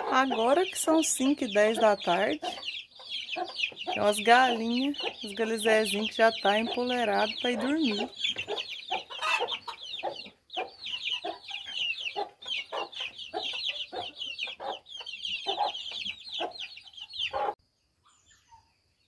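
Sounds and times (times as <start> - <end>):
chickens clucking: 0.0 - 17.6.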